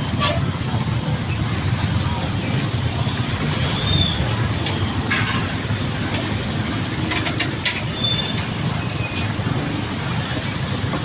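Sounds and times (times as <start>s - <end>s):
motor vehicles on road: 0.0s - 11.0s.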